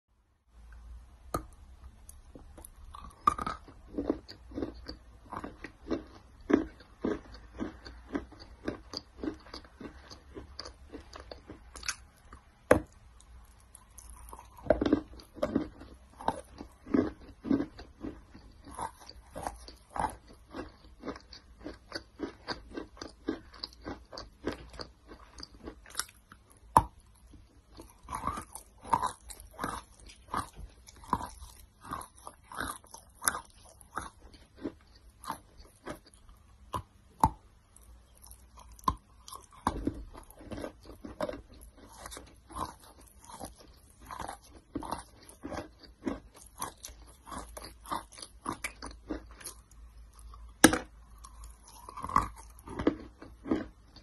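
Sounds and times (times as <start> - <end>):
crunching chewing of clay: 1.3 - 54.0.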